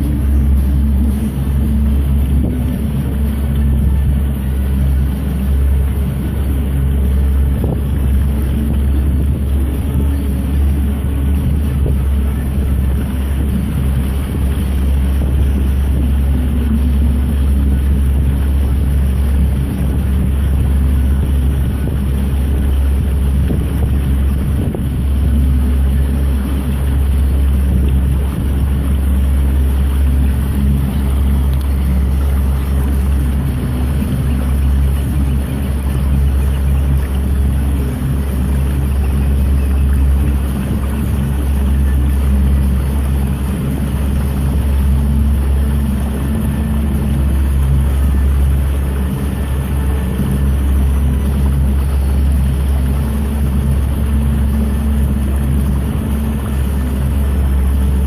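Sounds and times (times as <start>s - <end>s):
boat engine droning: 0.0s - 58.0s
wind buffeting microphone: 0.0s - 58.0s.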